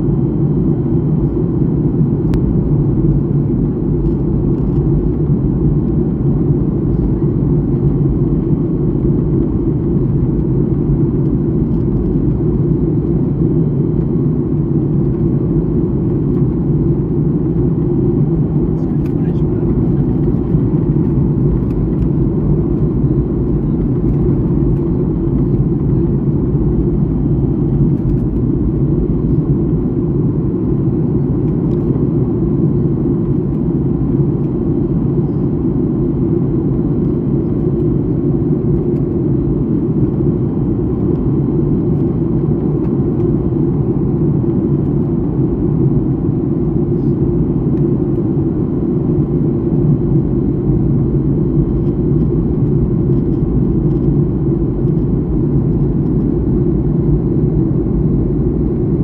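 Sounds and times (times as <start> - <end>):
jet airliner cabin rumble: 0.0 - 59.0.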